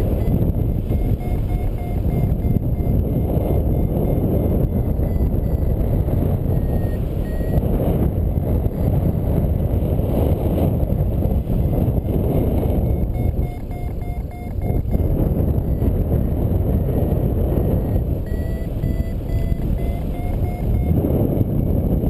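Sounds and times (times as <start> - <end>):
variometer beeps: 0.0 - 22.0
wind buffeting microphone: 0.0 - 22.0.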